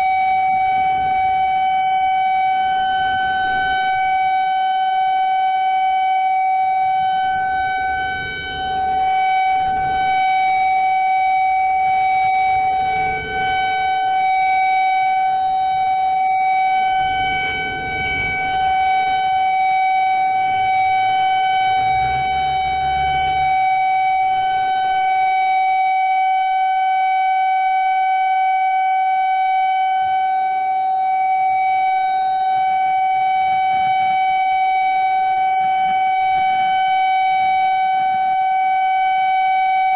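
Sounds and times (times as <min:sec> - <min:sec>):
emergency alert tone: 0:00.0 - 0:39.9.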